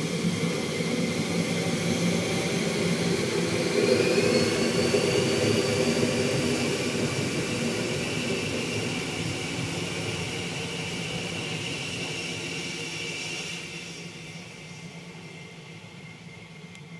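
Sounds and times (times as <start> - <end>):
jet engines whining: 0.0 - 16.9.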